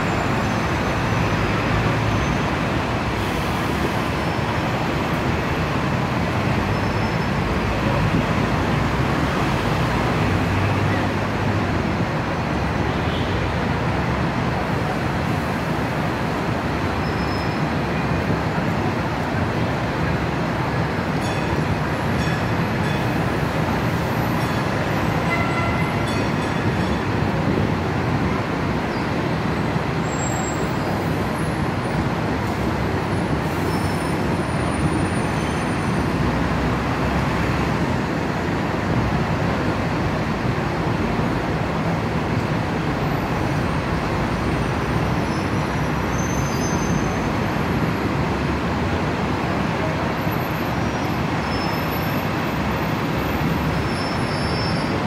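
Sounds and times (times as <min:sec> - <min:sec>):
heavy street traffic: 0:00.0 - 0:55.0.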